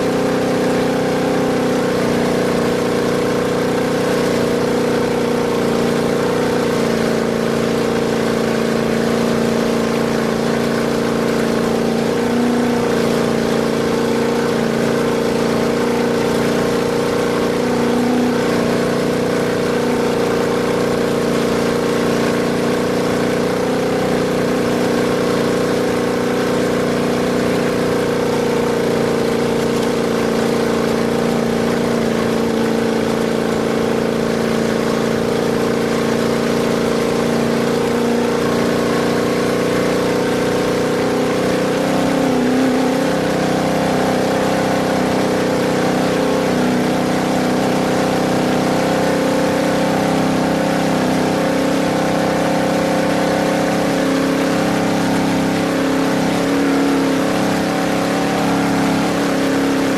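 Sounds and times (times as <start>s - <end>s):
engine droning at high speed: 0.0s - 59.9s.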